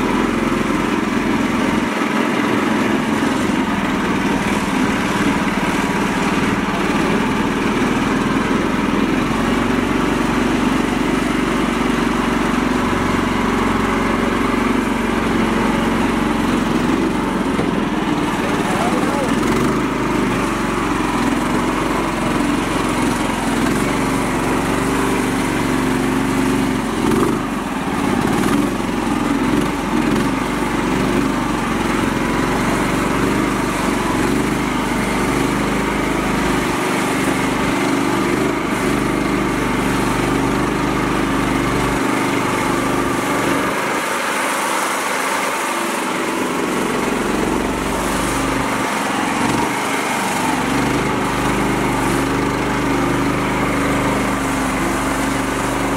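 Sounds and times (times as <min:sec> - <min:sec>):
small tractor engine running: 0:00.0 - 0:55.9.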